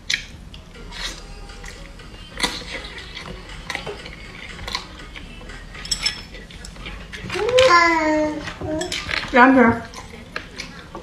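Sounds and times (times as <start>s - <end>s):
chewing with mouth noises: 0.0s - 11.0s.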